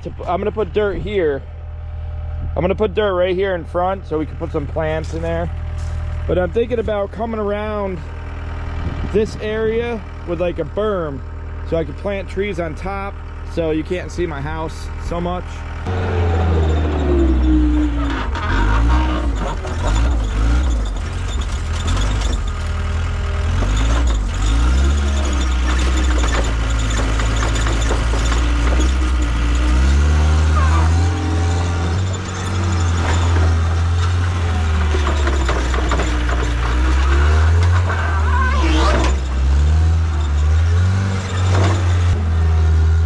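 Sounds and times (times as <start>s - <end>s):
skid steer diesel engine working: 0.0s - 43.0s.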